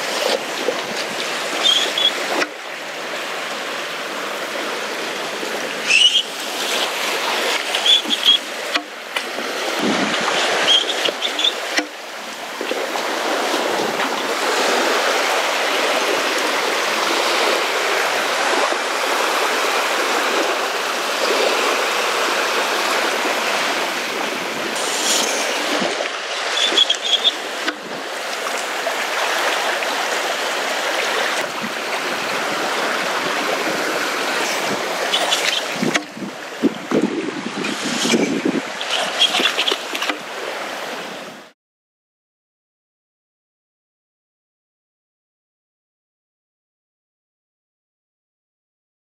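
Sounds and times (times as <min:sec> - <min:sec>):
small waves washing on shore: 0:00.0 - 0:41.6.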